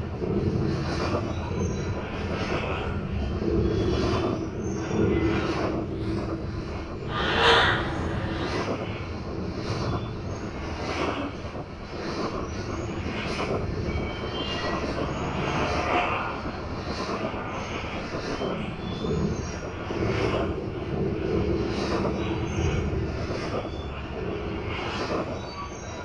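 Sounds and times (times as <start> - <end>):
grinding rumbling machinery: 0.0 - 26.0.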